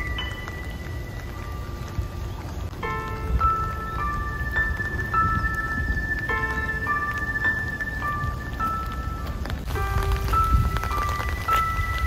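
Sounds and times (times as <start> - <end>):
rain pattering: 0.0 - 12.0
slow bell-like notes: 0.0 - 12.0.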